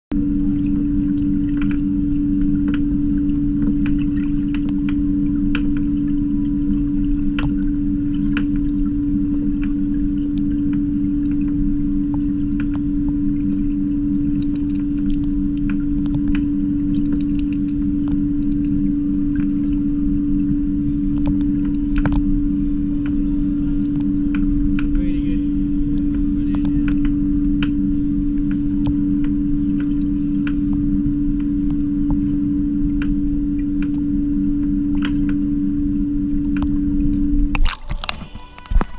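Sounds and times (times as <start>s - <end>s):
underwater low hum: 0.1s - 38.9s
water clicks and ticks: 0.4s - 25.1s, 25.9s - 38.9s.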